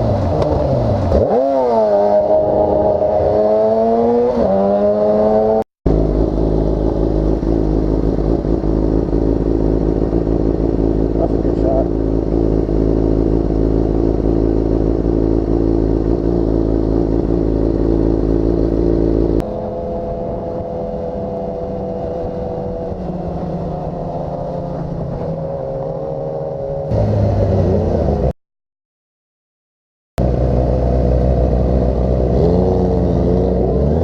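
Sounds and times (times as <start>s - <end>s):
motorcycle engine running: 4.8s - 28.3s, 30.2s - 34.0s.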